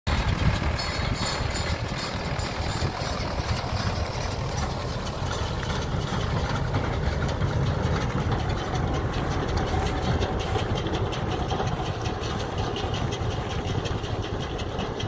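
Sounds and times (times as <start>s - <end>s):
tractor diesel engine rumbling: 0.0s - 15.0s
baler mechanical clatter: 0.1s - 15.0s.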